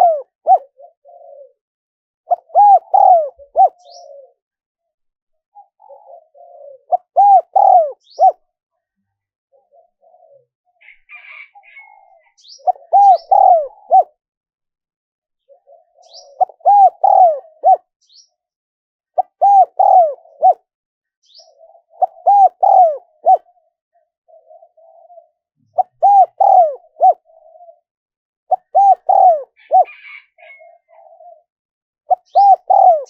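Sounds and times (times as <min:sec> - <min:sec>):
dove cooing: 0:00.0 - 0:01.6, 0:02.3 - 0:04.4, 0:05.5 - 0:08.4, 0:09.5 - 0:14.2, 0:15.4 - 0:18.2, 0:19.2 - 0:33.0.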